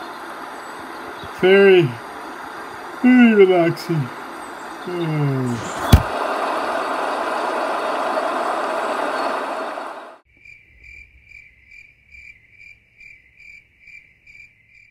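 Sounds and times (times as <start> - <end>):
crickets chirping: 0.0 - 14.9.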